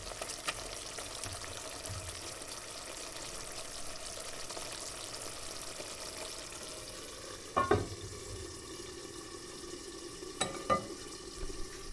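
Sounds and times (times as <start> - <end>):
food deep frying in oil: 0.0 - 11.9.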